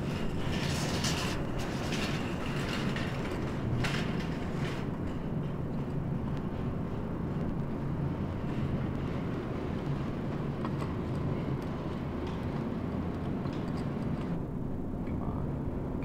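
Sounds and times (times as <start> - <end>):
low rumble and hum: 0.0 - 16.0.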